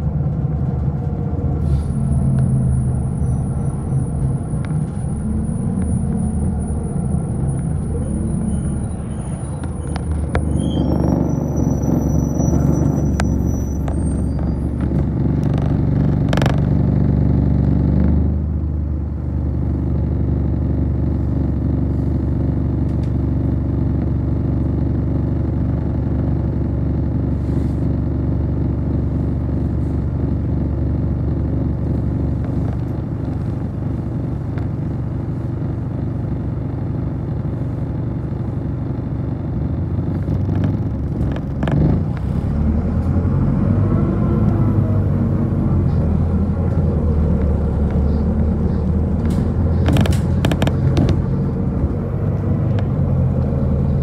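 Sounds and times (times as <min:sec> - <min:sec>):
bus engine low hum: 0:00.0 - 0:54.0.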